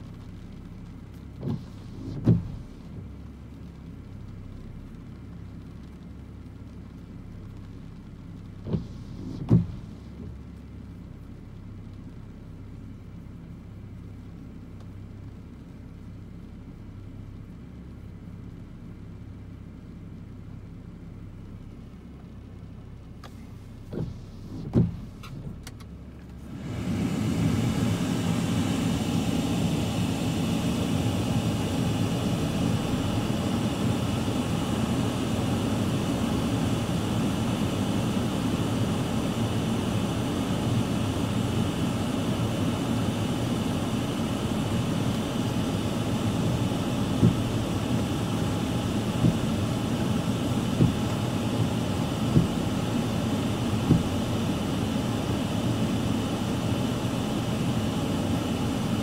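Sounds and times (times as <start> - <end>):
car interior hum: 0.0 - 59.0.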